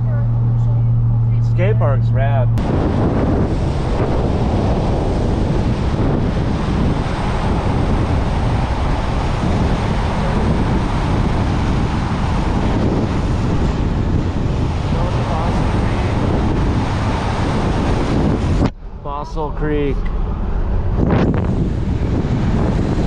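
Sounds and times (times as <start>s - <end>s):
road and tyre noise: 0.0s - 23.0s
wind buffeting microphone: 0.0s - 23.0s.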